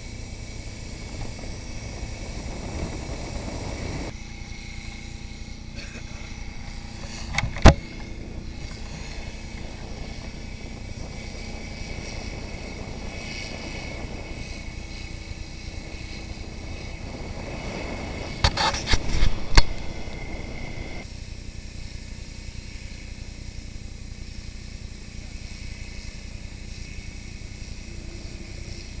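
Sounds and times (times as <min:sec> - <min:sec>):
water rushing from nozzles: 0:00.0 - 0:04.2, 0:04.9 - 0:21.1, 0:22.3 - 0:29.0.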